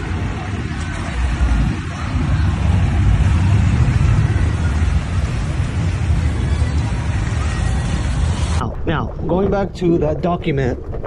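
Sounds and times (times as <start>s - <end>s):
vehicle engine rumble: 0.0s - 11.0s
water noise haze: 0.0s - 11.0s.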